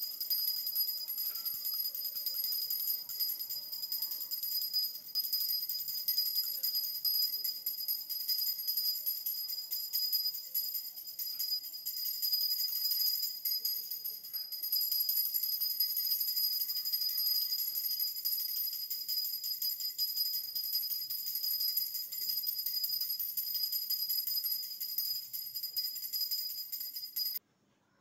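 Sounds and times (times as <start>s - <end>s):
high-pitched bell ringing: 0.0s - 27.4s.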